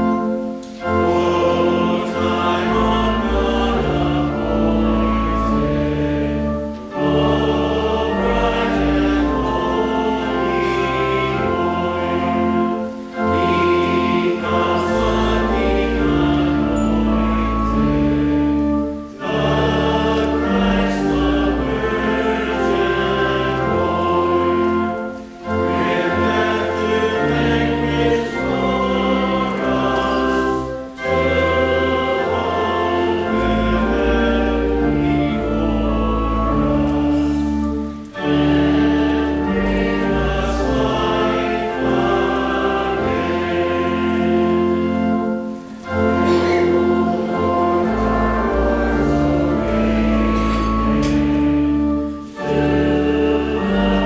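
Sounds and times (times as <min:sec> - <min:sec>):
congregation singing a hymn: 0:00.0 - 0:54.0
organ: 0:00.0 - 0:54.0.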